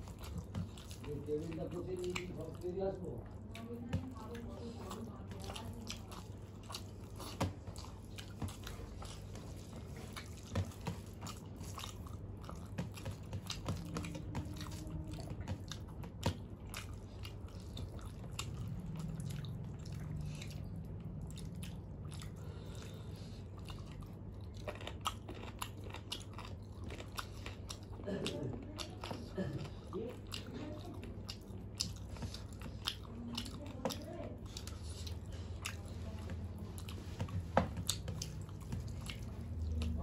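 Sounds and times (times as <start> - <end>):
people chewing: 0.0 - 40.0.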